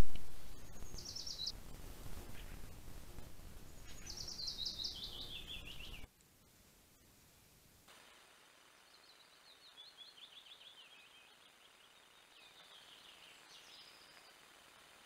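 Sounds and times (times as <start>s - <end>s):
faint birdsong: 0.0s - 6.1s, 8.6s - 15.0s
microphone hiss: 0.0s - 15.0s.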